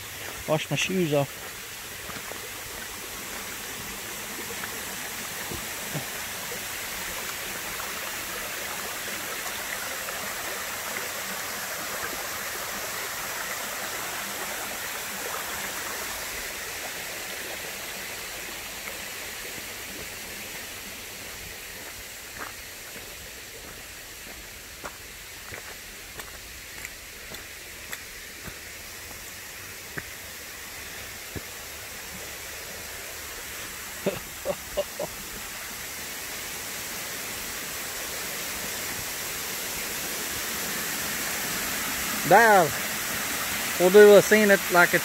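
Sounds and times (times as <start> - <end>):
creek water rushing over rocks: 0.0 - 45.0.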